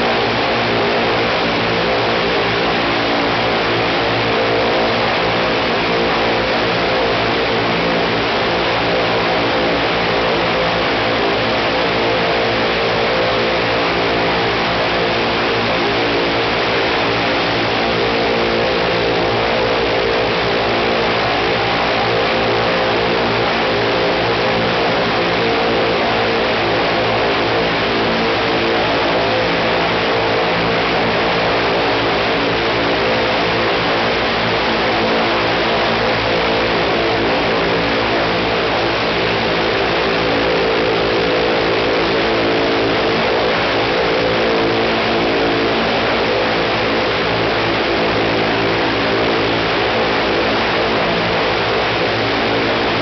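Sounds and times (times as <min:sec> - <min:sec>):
radial aircraft engine running: 0:00.0 - 0:53.0.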